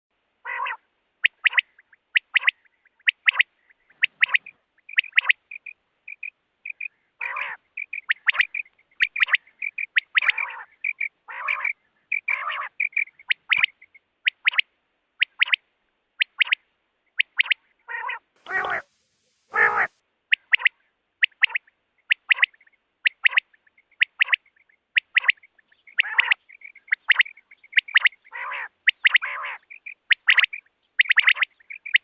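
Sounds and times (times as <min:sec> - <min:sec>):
quail calling: 0:00.4 - 0:14.6, 0:15.2 - 0:15.6, 0:16.2 - 0:32.0.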